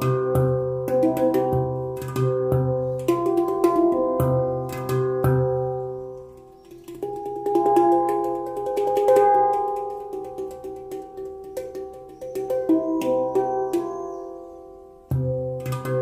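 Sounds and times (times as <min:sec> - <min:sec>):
handpan played by hand: 0:00.0 - 0:16.0.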